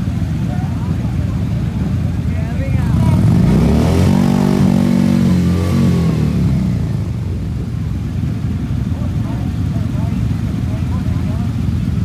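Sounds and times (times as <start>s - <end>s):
motorcycle engine revving: 0.0s - 12.0s
motorcycles idling: 0.0s - 12.0s.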